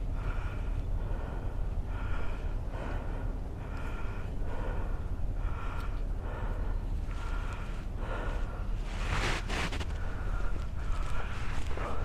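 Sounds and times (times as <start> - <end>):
person breathing heavily: 0.0 - 12.0
wind rumble on microphone: 0.0 - 12.0.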